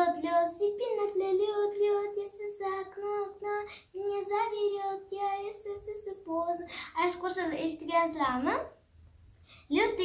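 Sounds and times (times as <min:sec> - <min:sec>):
girl singing: 0:00.0 - 0:08.7, 0:09.6 - 0:10.0.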